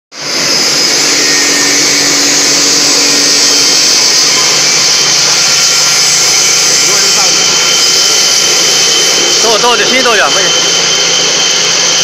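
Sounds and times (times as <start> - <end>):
grinder motor whirring: 0.2 - 12.0.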